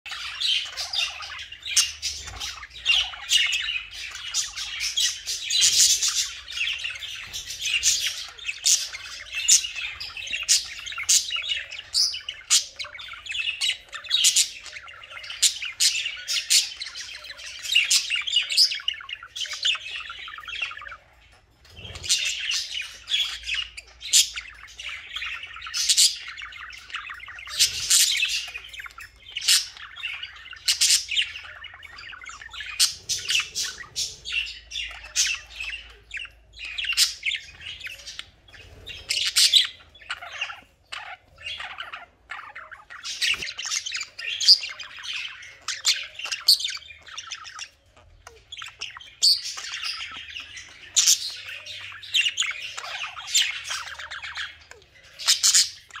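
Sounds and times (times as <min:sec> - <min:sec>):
budgerigar chattering and warbling: 0:00.1 - 0:56.0.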